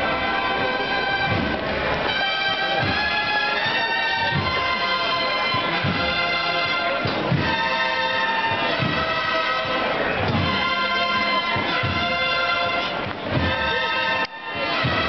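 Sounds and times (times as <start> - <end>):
brass band playing slow march: 0.0 - 15.0
low drum beats: 0.0 - 15.0.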